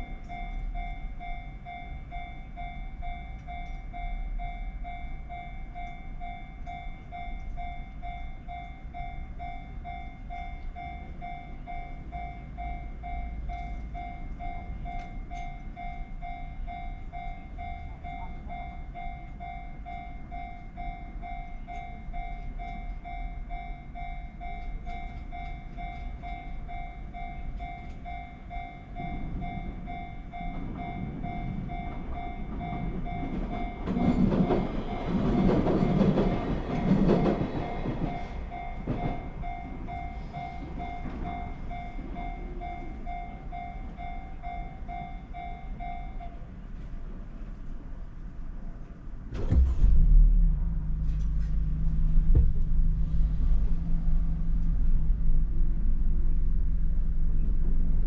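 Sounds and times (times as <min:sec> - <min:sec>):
level crossing alarm ringing: 0:00.0 - 0:46.6
low train rumble: 0:00.0 - 0:58.0.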